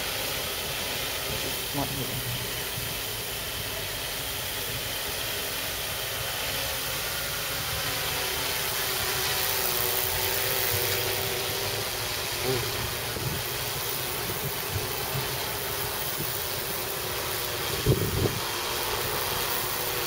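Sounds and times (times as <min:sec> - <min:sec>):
quadcopter motors humming: 0:00.0 - 0:20.0.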